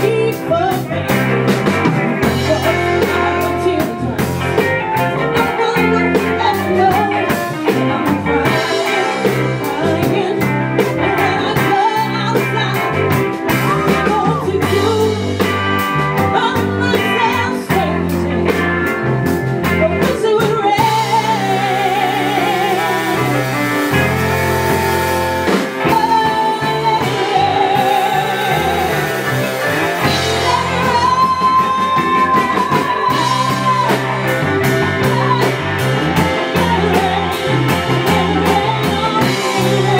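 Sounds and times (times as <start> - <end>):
woman singing: 0.0 - 1.3, 2.2 - 24.8, 25.5 - 39.9
electric guitar: 0.0 - 39.9
live band playing: 0.0 - 39.9.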